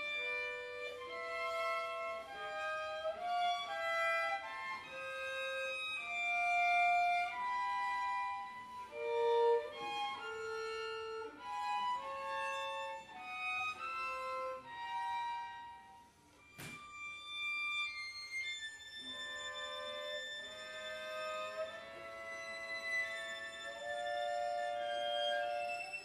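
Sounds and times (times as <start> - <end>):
violin and cello playing: 0.0 - 26.0.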